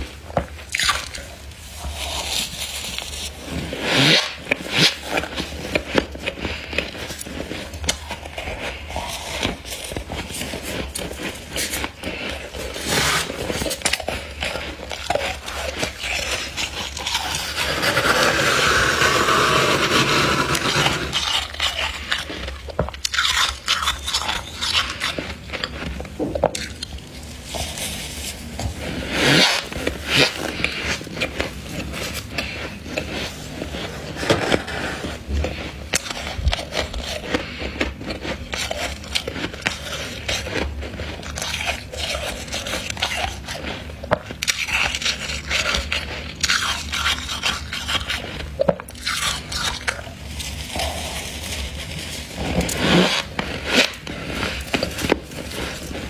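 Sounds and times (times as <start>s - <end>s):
freezer frost crunching and scraping: 0.0s - 56.0s.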